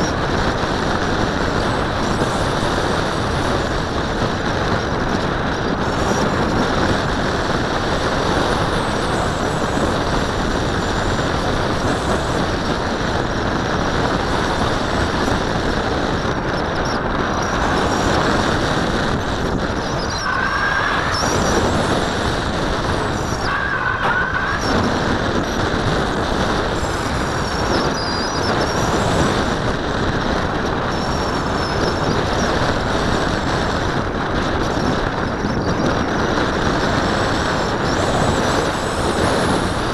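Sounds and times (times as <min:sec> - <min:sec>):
airflow rushing over camera: 0:00.0 - 0:39.9.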